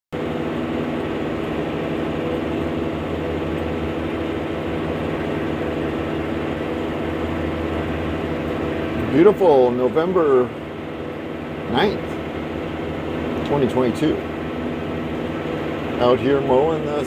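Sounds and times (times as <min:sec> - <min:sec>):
tractor engine running: 0:00.1 - 0:17.0.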